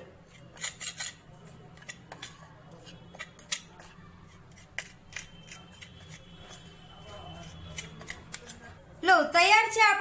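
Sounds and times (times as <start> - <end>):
spoon scraping a metal bowl: 0.0 - 8.9.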